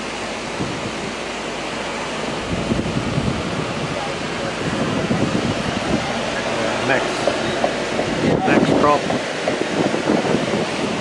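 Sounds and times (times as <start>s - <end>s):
wind blowing across microphone: 0.4s - 1.2s, 2.2s - 11.0s.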